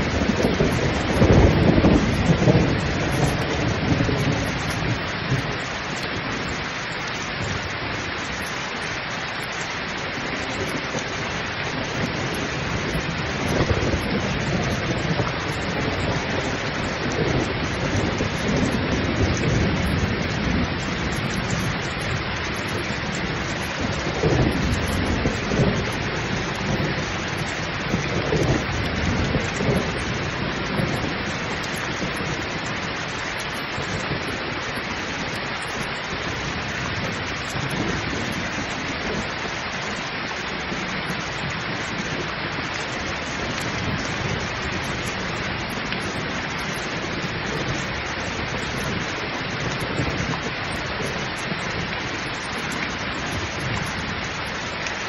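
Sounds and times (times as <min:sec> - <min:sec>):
rolling thunder: 0:00.0 - 0:54.8
heavy rain pouring: 0:00.0 - 0:55.0.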